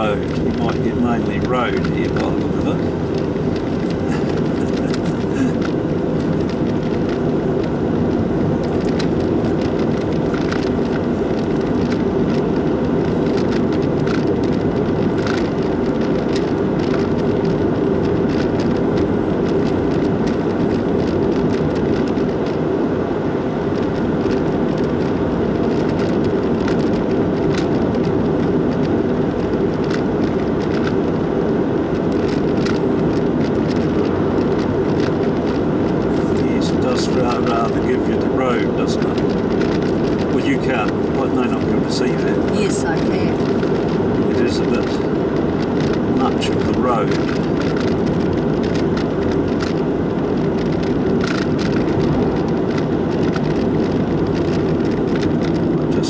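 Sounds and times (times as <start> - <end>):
tyres and engine rumble inside car: 0.0 - 56.0.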